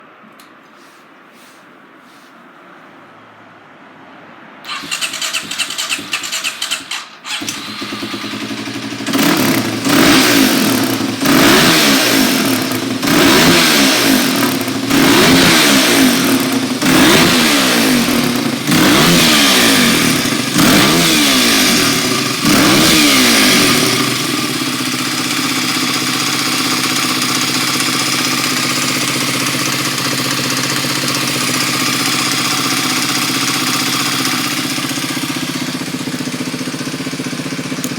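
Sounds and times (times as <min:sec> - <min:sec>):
motorcycle engine revving: 0:04.6 - 0:37.9
motorcycle engine starting: 0:04.6 - 0:37.9
motorcycle engine idling: 0:04.7 - 0:37.9.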